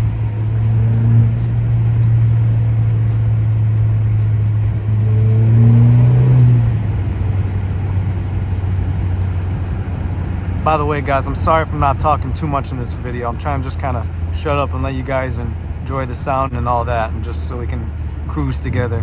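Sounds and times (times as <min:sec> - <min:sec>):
car exhaust drone: 0:00.0 - 0:19.0.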